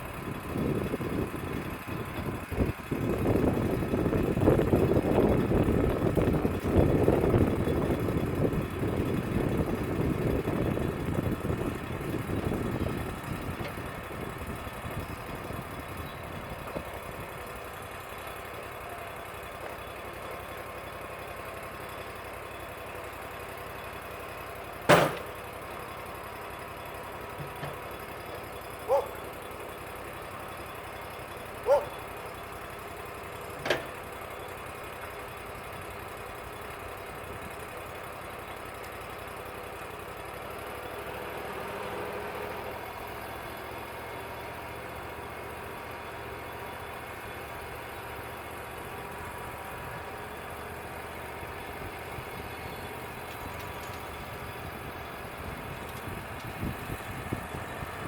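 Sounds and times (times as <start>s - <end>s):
sawmill engine idling: 0.0s - 58.0s.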